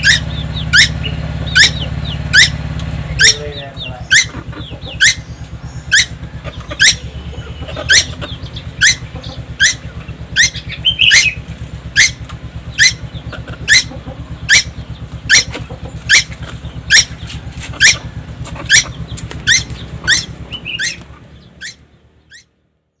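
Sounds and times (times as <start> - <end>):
young bird calling: 0.0 - 22.5
low engine-like hum: 0.0 - 23.0.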